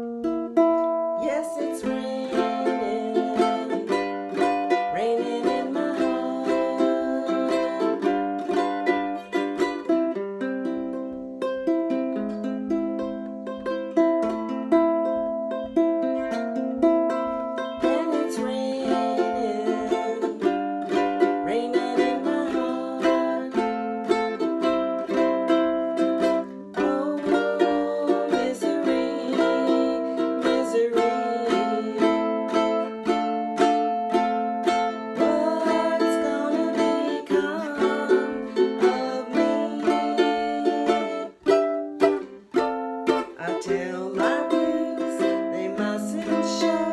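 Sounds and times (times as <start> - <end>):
ukulele melody line: 0.0 - 46.9
ukulele strumming: 0.0 - 46.9.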